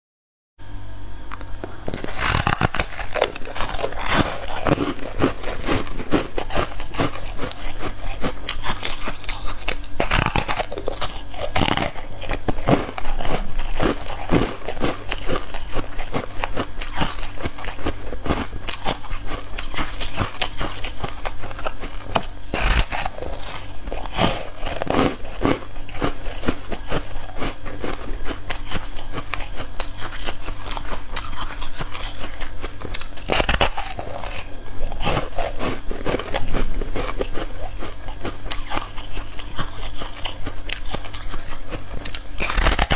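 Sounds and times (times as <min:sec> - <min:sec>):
chewing crunchy ice: 0:01.8 - 0:42.9.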